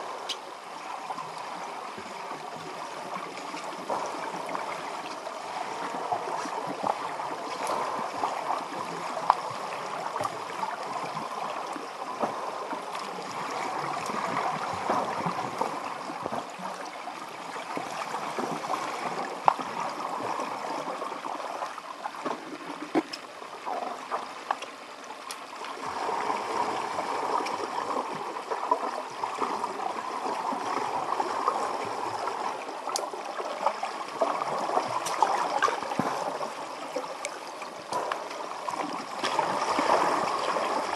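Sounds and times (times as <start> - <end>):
underwater hiss and gurgle: 0.0 - 40.9.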